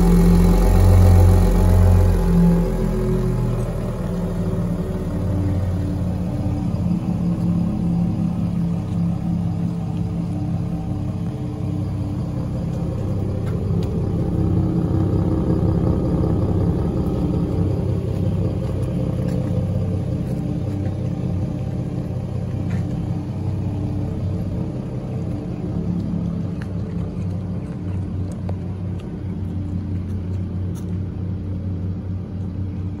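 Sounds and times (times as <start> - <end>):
truck engines idling: 0.0 - 33.0.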